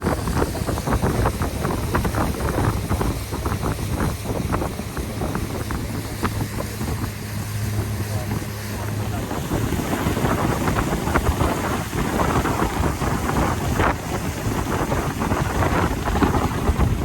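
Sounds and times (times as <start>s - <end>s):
boat motor humming: 0.0s - 17.0s
water splashing against hull: 0.0s - 17.0s
wind buffeting microphone: 0.0s - 17.0s.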